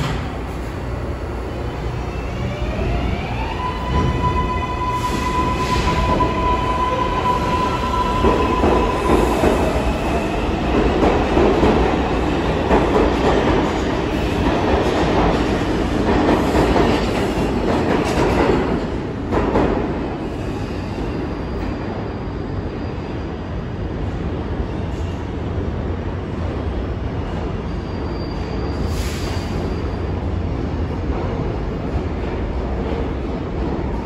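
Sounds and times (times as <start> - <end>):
subway train passing: 0.0 - 34.0.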